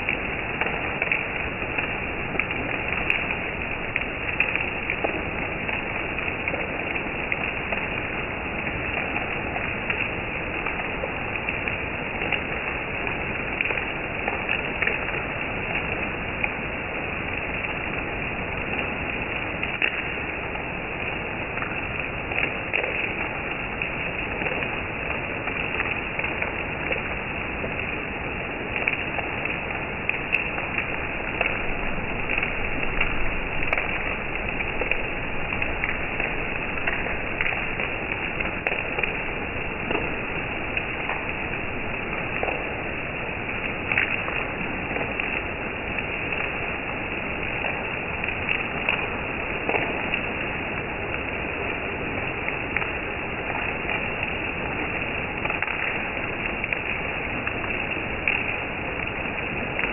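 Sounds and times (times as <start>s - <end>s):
sharp ticks of raindrops: 0.0s - 59.9s
steady rain falling: 0.0s - 59.9s.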